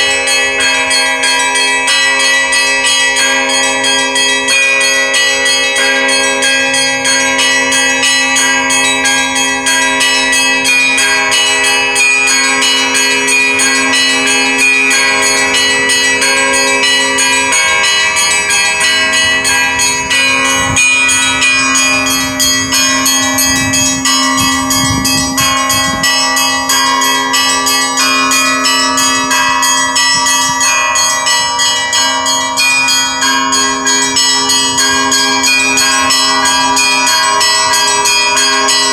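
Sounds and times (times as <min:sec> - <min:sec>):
large bell ringing: 0:00.0 - 0:38.9
small church bells struck: 0:00.0 - 0:38.9.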